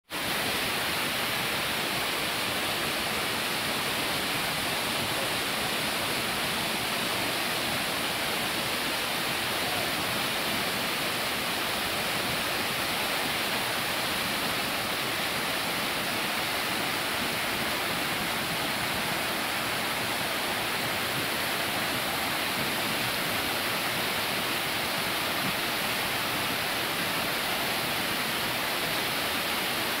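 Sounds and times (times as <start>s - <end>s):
waterfall rushing over rock: 0.1s - 30.0s.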